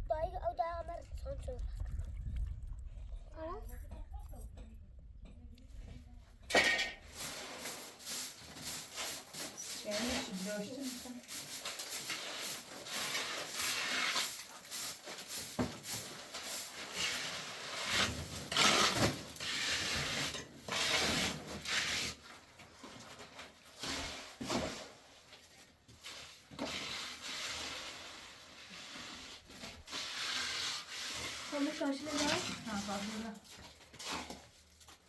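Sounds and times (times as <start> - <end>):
scraping and rubbing: 5.8 - 35.0.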